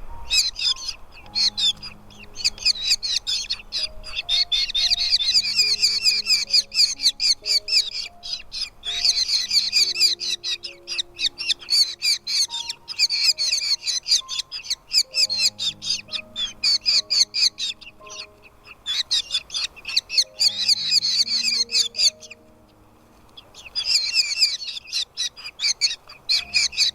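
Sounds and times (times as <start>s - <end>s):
nestling birds begging chirps: 0.0s - 26.9s
soft background music: 0.0s - 26.9s.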